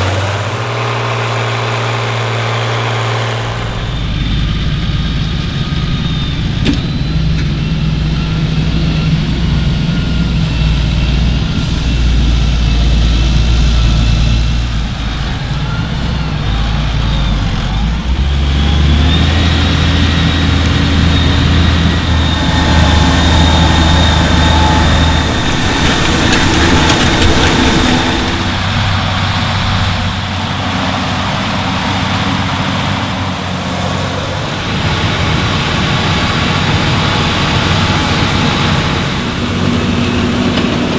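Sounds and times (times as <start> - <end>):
large diesel engines running: 0.0 - 40.9.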